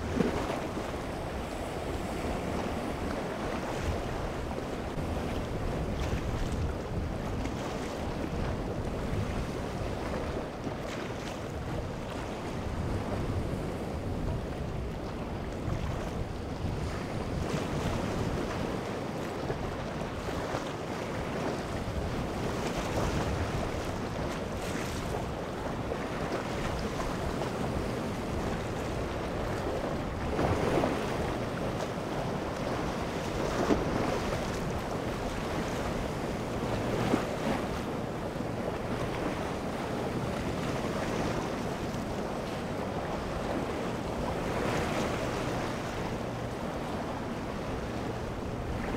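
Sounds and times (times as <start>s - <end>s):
wind on microphone: 0.0s - 48.9s.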